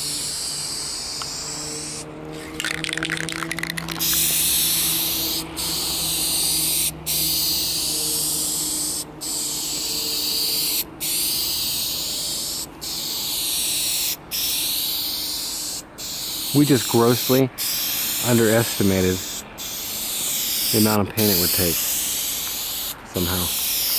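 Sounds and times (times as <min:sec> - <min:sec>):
aerosol spray can hissing: 0:00.0 - 0:23.9.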